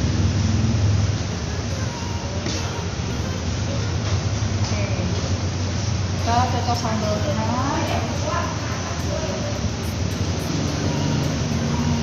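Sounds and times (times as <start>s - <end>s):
low droning hum: 0.0s - 12.0s
steady background noise: 0.0s - 12.0s.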